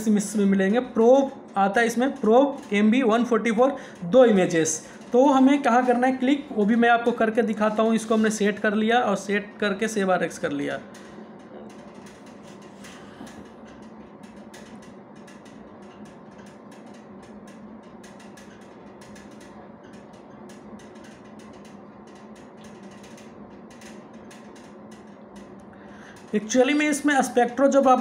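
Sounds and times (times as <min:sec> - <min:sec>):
mri scanner hum: 0:00.0 - 0:28.0.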